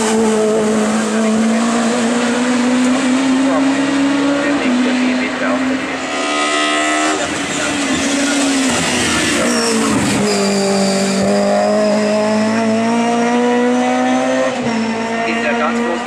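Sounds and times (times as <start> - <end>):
race car engine under load: 0.0 - 16.0.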